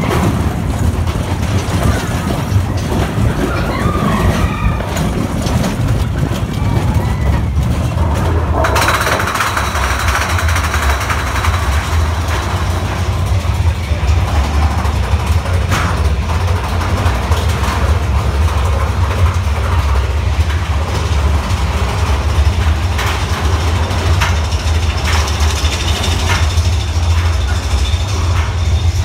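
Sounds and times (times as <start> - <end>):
coaster rumbling on track: 0.0 - 29.0
sharp clanks and knocks: 0.0 - 29.0.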